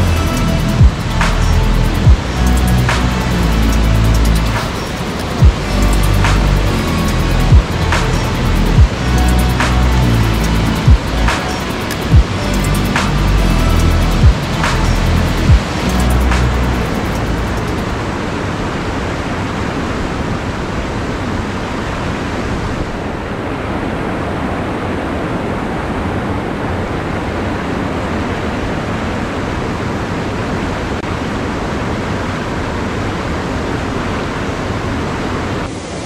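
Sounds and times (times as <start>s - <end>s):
river rushing over rapids: 0.0s - 36.0s.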